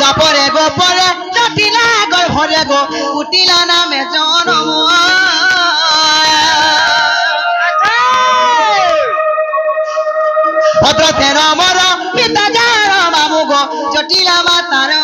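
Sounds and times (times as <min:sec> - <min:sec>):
person singing into a microphone: 0:00.0 - 0:15.0.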